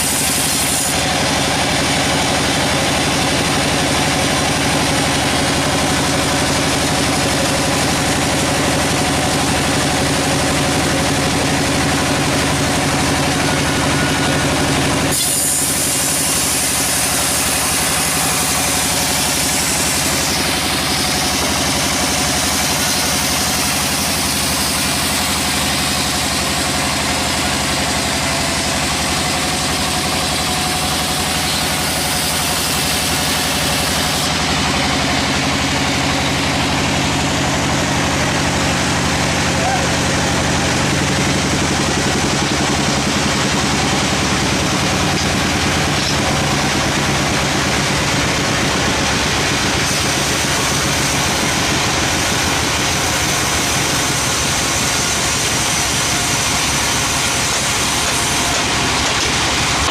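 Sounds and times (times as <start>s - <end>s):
saw blade cutting log: 0.0s - 59.9s
sawmill engine running: 0.0s - 59.9s.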